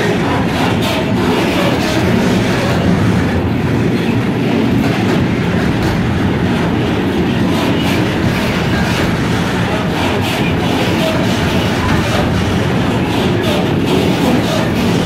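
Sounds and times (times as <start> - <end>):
freight train rumbling past: 0.0 - 15.0
wheels clacking over rail joints: 0.0 - 15.0.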